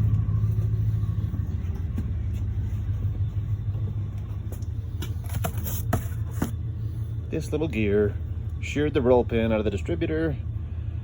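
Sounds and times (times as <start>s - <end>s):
engine idling with low rumble: 0.0s - 11.0s.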